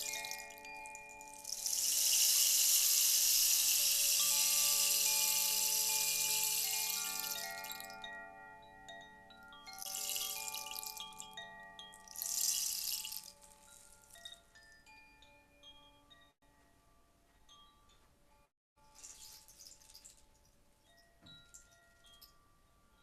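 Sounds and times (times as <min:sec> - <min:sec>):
chimes ringing: 0:00.0 - 0:18.5.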